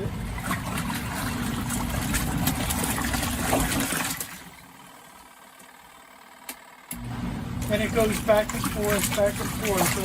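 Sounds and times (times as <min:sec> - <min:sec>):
washing machine churning water: 0:00.0 - 0:06.2, 0:06.9 - 0:10.0.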